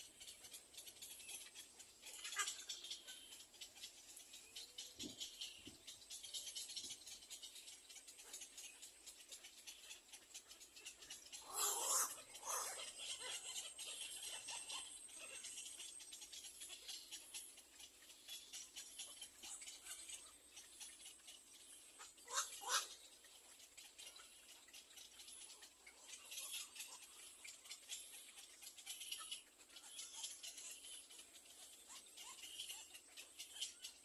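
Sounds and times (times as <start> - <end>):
faint constant crackle: 0.0 - 34.0.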